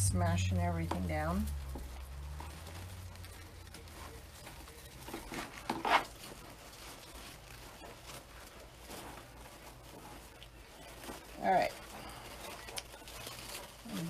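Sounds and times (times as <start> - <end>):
plastic mesh rustling and crinkling: 0.0 - 14.0.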